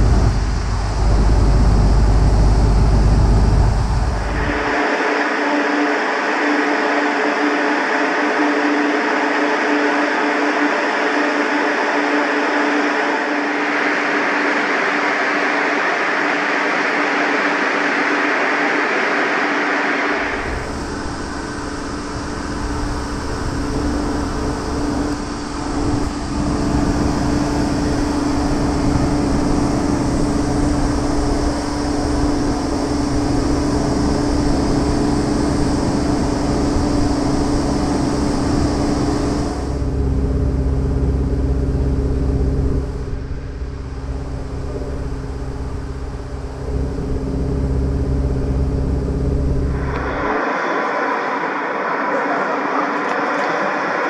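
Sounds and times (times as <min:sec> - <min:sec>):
machinery droning hum: 0:00.0 - 0:54.0.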